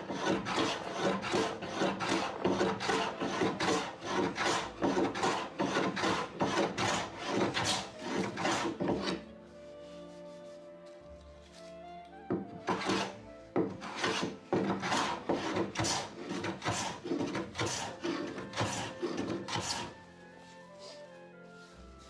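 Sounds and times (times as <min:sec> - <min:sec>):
hand tool scraping wood: 0:00.0 - 0:22.0.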